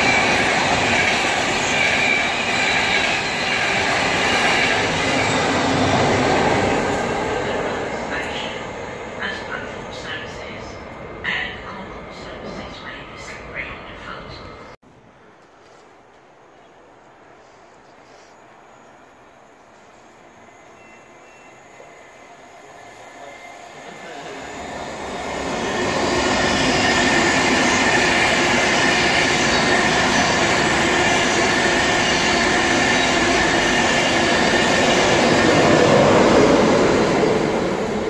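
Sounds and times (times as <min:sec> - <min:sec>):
train passing at speed: 0:00.0 - 0:14.8, 0:18.5 - 0:38.0.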